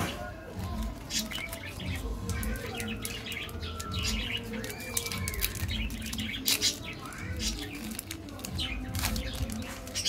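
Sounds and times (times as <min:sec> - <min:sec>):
birds chirping: 0:00.0 - 0:10.0
wrapper crinkling and tearing: 0:00.6 - 0:10.0.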